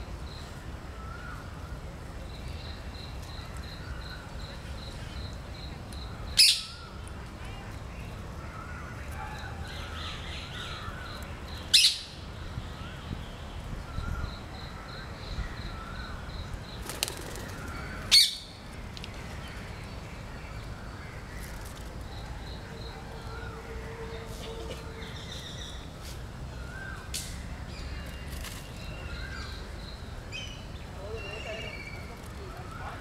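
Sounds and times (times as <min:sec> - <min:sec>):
birds chirping and calling: 0:02.5 - 0:07.0, 0:08.0 - 0:13.1, 0:13.8 - 0:33.0.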